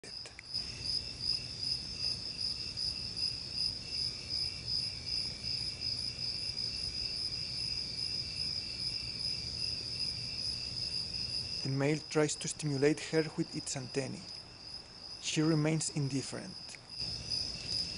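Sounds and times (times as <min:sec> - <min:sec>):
crickets chirping: 0:00.0 - 0:17.9.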